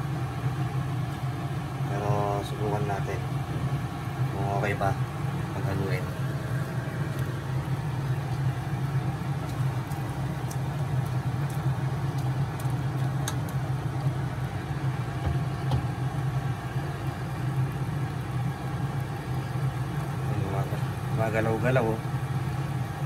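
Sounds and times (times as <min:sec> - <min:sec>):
low kitchen rumble: 0:00.0 - 0:23.0
pot boiling: 0:00.0 - 0:23.0.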